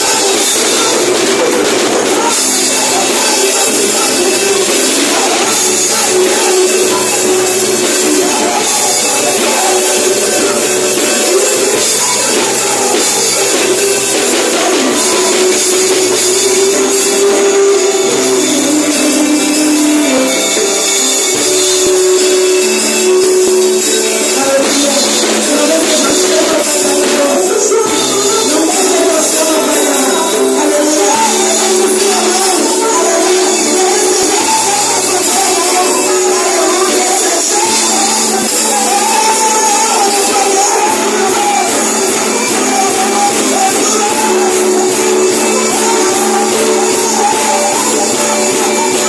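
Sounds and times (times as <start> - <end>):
worship band music: 0.0 - 49.0.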